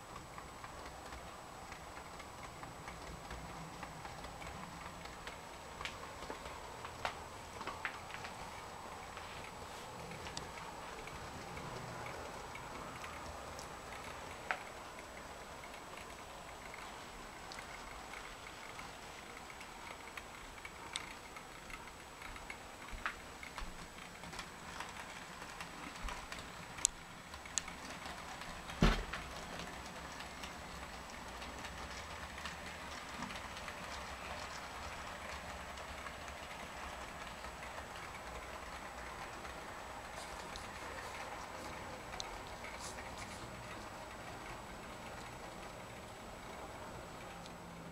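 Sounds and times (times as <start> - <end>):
model train rolling hum: 0.0 - 47.9
wheels clicking over rails: 0.0 - 47.9.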